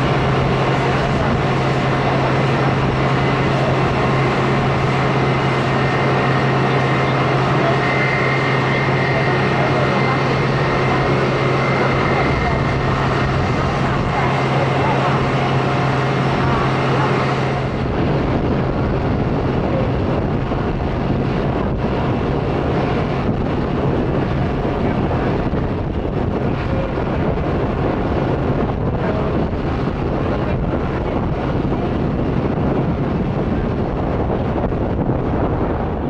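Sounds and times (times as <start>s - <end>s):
jet engine noise: 0.0s - 36.0s
wind buffeting microphone: 0.0s - 36.0s.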